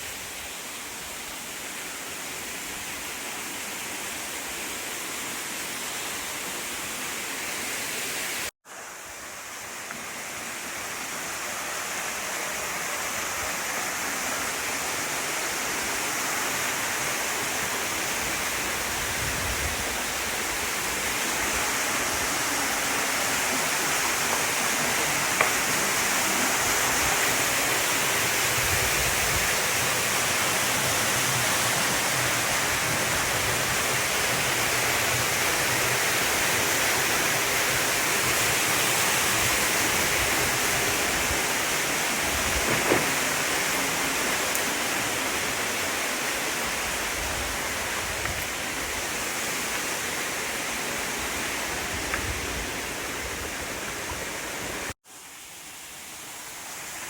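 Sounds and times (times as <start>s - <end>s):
waterfall rushing: 0.6s - 57.0s.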